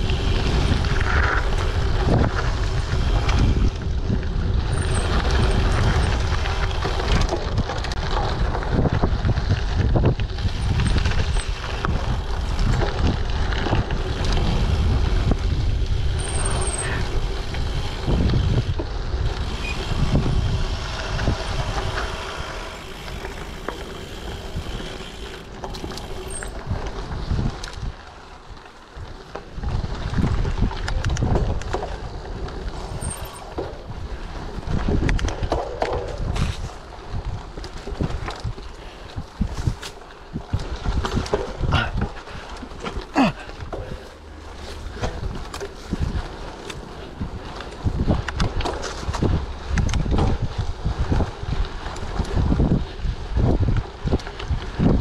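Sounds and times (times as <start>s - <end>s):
wind buffeting microphone: 0.0s - 28.2s, 29.0s - 55.0s
bike rattling and knocking: 0.0s - 55.0s
bike tyres rumbling on dirt: 0.0s - 55.0s.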